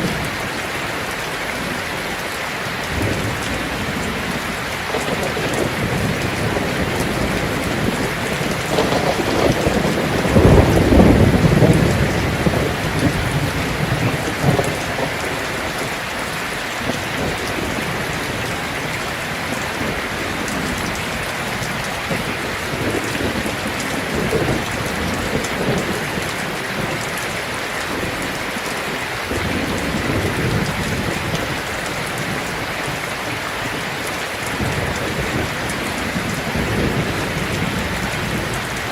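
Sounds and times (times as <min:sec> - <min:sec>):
heavy rain on a tin roof: 0:00.0 - 0:38.9
thunder rumbling: 0:00.0 - 0:38.9.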